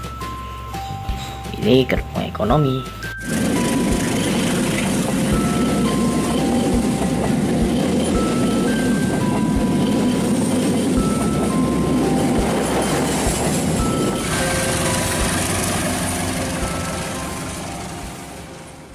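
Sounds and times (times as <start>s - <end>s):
train coaches rolling past: 2.6s - 18.9s
wheels clacking over rail joints: 3.0s - 18.9s.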